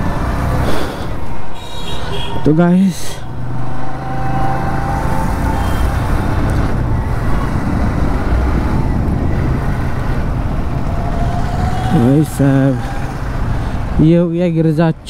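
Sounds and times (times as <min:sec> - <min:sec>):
motorcycle engine drone: 0:00.0 - 0:14.1
wind and road noise: 0:00.0 - 0:15.0.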